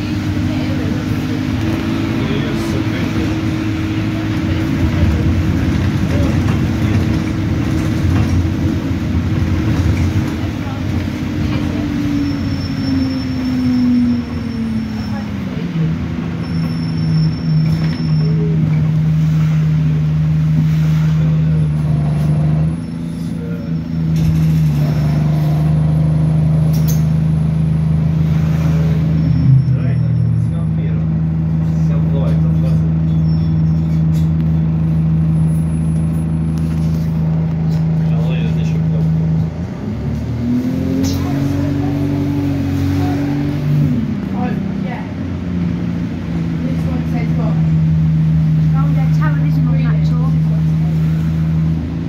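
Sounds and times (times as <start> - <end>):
bus engine drone: 0.0 - 52.0
road noise: 0.0 - 52.0.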